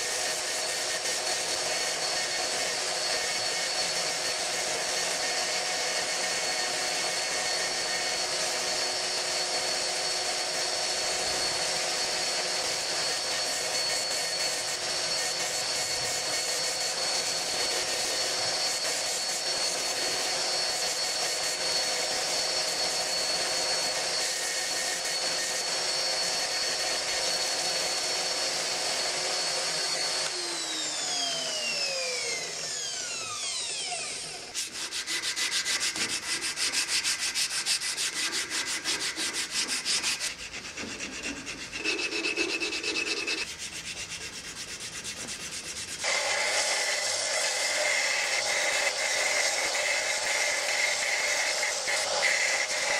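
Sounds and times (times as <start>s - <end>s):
hand sanding wood: 0.0s - 30.4s, 34.5s - 52.9s
angle grinder whining: 0.2s - 43.7s, 45.4s - 52.9s.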